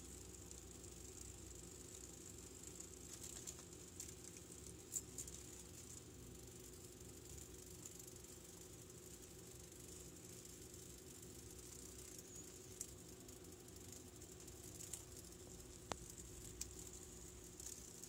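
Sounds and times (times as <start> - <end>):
faint room tone hiss: 0.0 - 18.0
faint ticks: 0.0 - 18.0.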